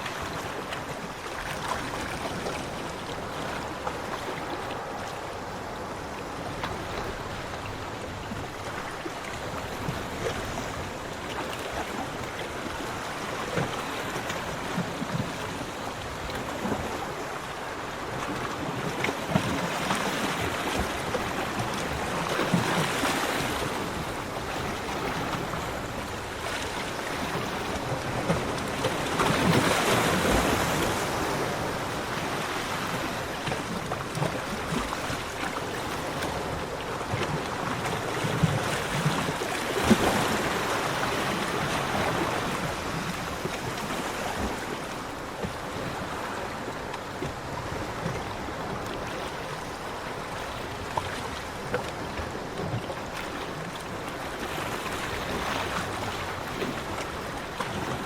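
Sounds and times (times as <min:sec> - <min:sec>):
bigger waves breaking: 0:00.0 - 0:58.0
sea waves washing onto beach: 0:00.0 - 0:58.0.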